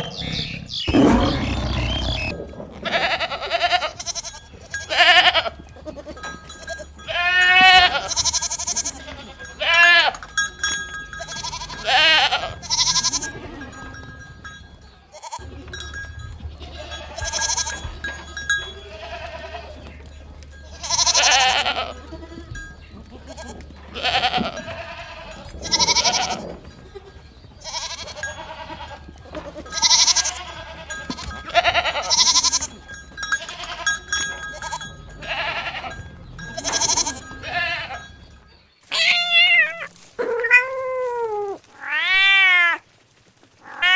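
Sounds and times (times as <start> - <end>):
goats bleating: 0.0 - 14.5, 15.1 - 42.9, 43.6 - 43.9.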